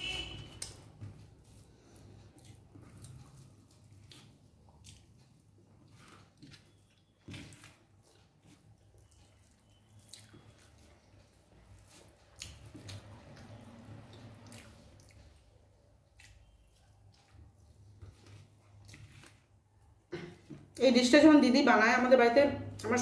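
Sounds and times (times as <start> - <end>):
person chewing food: 0.0 - 20.8.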